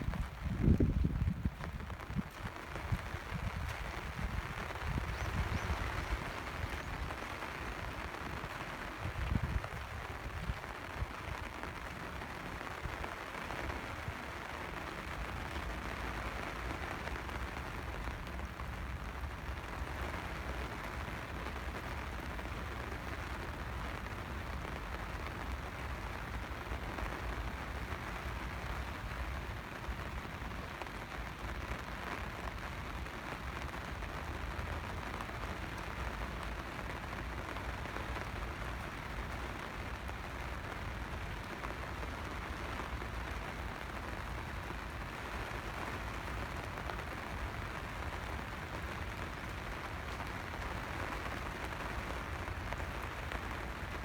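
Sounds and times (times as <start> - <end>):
rain hissing on surfaces: 0.0 - 54.0.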